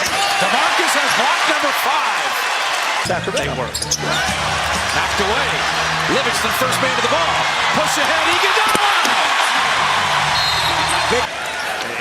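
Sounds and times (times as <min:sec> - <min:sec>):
arena crowd cheering: 0:00.0 - 0:12.0.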